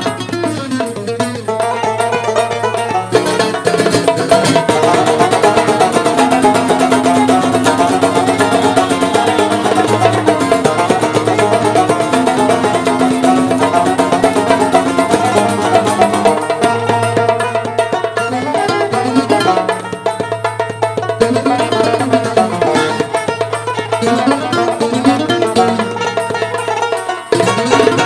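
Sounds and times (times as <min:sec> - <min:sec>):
fast plucked-string melody: 0:00.0 - 0:28.0.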